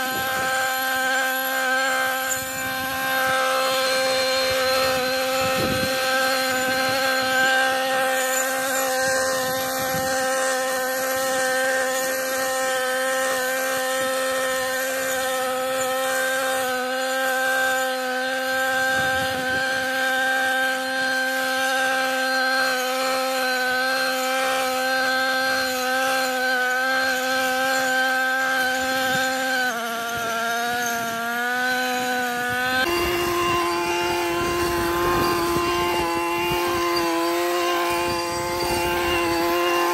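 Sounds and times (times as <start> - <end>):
brushcutter engine running: 0.0 - 39.9.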